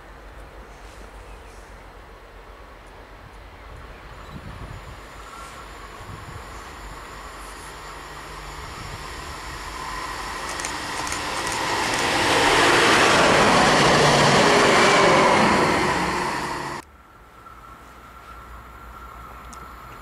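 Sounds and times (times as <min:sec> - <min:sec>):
tram passing on rails: 0:00.0 - 0:20.0.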